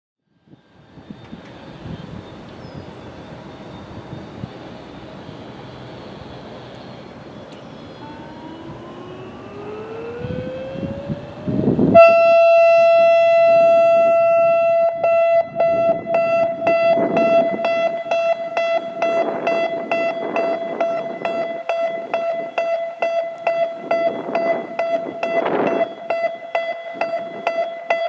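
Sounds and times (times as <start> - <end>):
electronic warning siren: 0.4 - 28.0
faint siren rising in pitch: 0.4 - 28.0.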